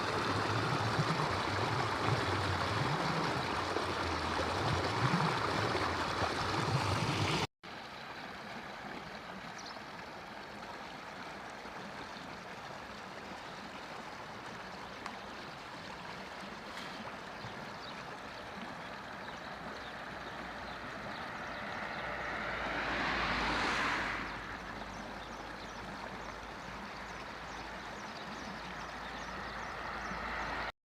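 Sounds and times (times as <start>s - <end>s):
stream rushing: 0.0s - 30.7s.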